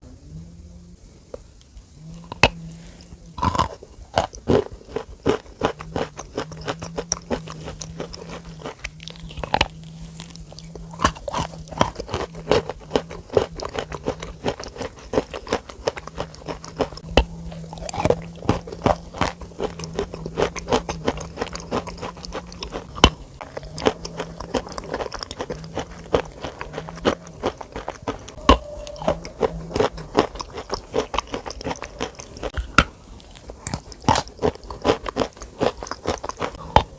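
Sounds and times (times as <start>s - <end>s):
faint low hum: 0.0s - 36.9s
crunching and chewing: 1.2s - 36.9s.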